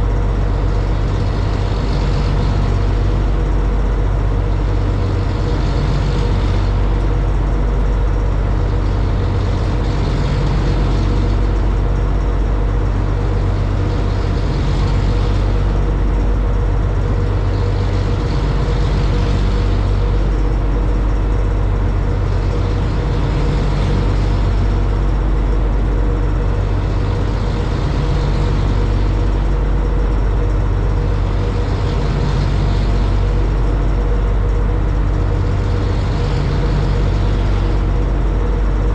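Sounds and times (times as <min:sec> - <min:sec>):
boat engines droning: 0:00.0 - 0:38.9.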